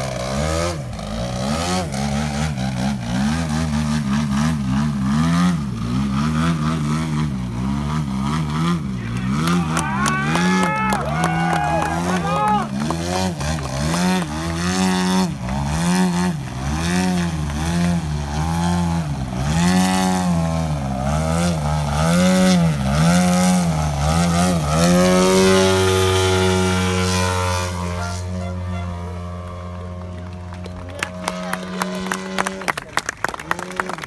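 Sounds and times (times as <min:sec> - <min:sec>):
model airplane motor whining: 0:00.0 - 0:32.9.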